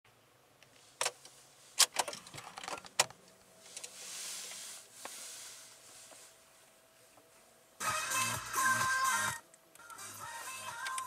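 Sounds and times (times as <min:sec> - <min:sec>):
soft high hiss: 0:00.1 - 0:02.3, 0:03.1 - 0:11.0.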